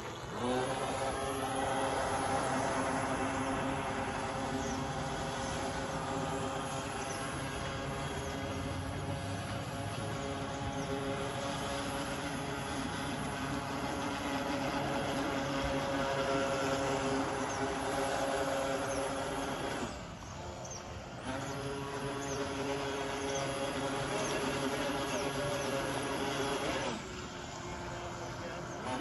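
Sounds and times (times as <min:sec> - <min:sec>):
toy boat motor whining: 0:00.0 - 0:29.0.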